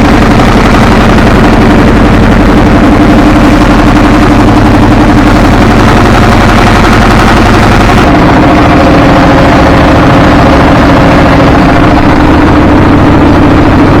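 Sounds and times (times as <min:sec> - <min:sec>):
motor running with low pulsing: 0:00.0 - 0:14.0.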